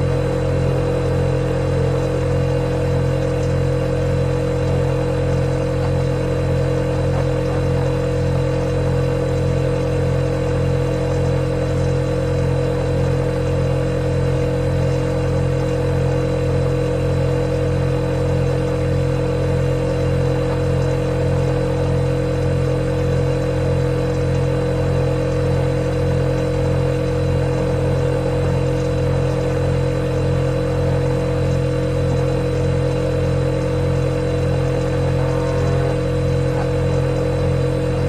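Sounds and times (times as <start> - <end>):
refrigerator humming: 0.0 - 38.0.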